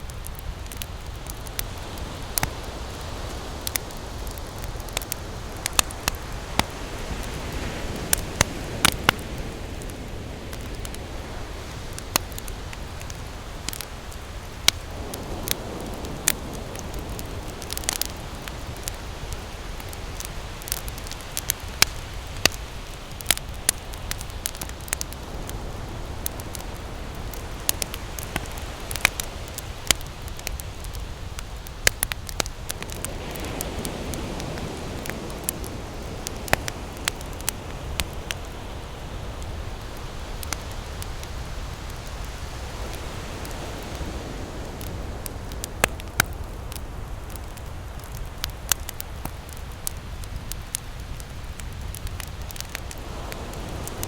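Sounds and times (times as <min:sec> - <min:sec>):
campfire crackling and popping: 0:00.0 - 0:54.0
ocean surf: 0:00.0 - 0:54.0
wave washing in: 0:00.0 - 0:54.0.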